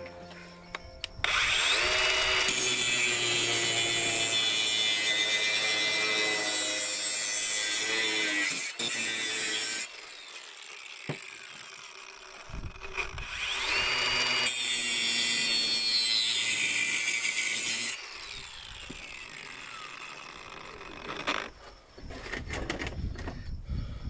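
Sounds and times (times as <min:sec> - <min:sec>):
angle grinder whining: 0:01.0 - 0:21.7
grinder cutting steel tubing: 0:01.2 - 0:21.6.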